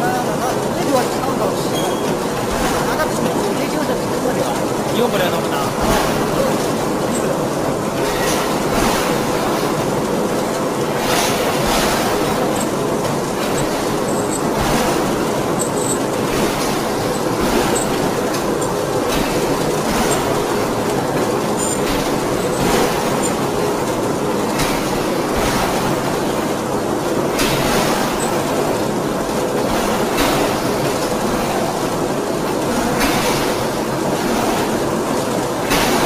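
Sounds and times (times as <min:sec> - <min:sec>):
ring rolling mill rumble: 0:00.0 - 0:36.0.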